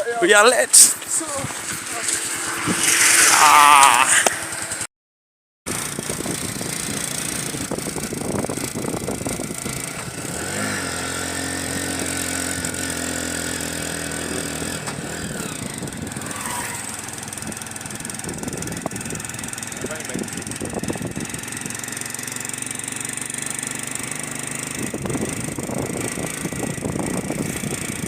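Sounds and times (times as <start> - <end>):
motorcycle engine running: 0.0 - 4.9, 5.7 - 28.0
wind and road noise: 0.0 - 4.9, 5.7 - 28.0.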